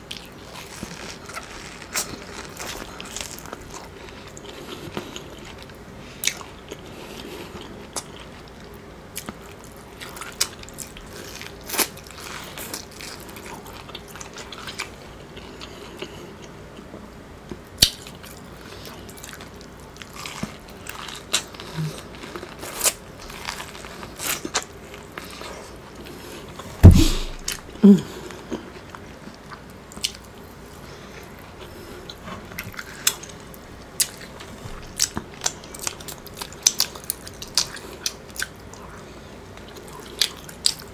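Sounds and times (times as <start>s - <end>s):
chewing: 0.0s - 40.9s.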